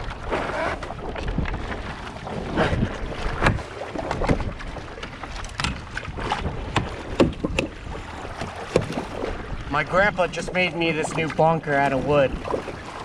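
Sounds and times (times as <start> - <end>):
knocks and thumps on kayak: 0.0 - 13.0.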